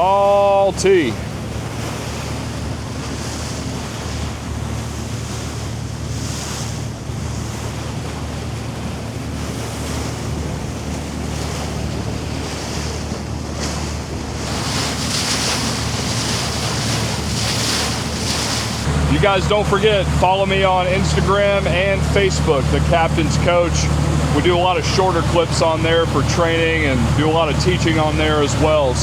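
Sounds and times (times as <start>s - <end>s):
boat engine drone: 0.0s - 29.0s
rushing wind and water: 0.0s - 29.0s
wind buffeting microphone: 0.0s - 29.0s.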